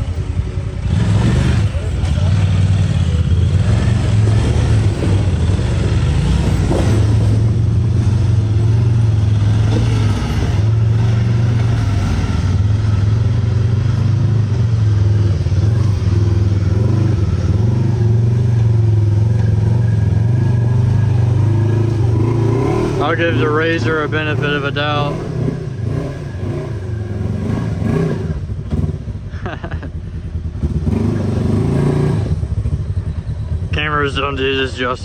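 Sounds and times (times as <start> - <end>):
utility vehicle engine humming: 0.0 - 35.0.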